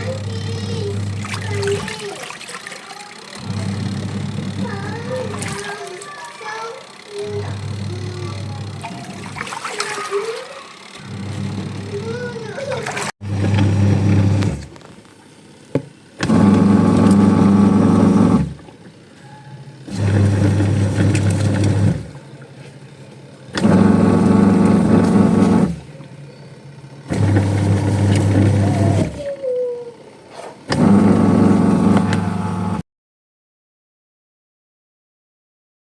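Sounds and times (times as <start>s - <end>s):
washing machine motor humming: 0.0s - 32.8s.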